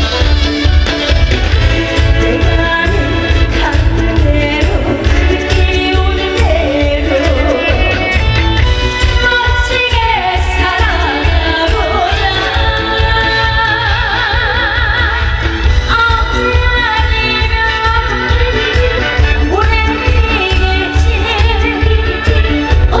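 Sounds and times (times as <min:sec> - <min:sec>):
band accompaniment: 0:00.0 - 0:23.0
woman singing: 0:01.6 - 0:08.2, 0:08.9 - 0:23.0.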